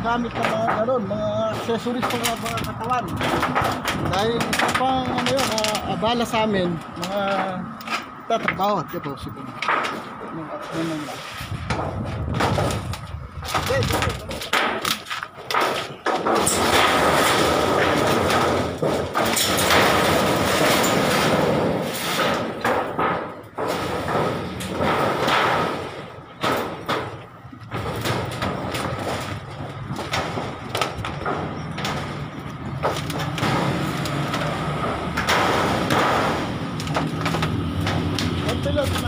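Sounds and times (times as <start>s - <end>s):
knocks scrapes and rattles of roofing: 0.0s - 8.7s, 9.5s - 39.0s.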